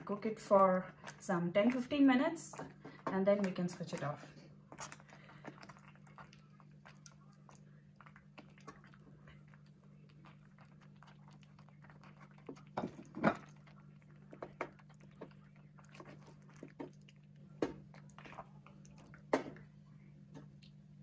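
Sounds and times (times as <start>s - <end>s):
wet squelches: 2.5s - 21.0s.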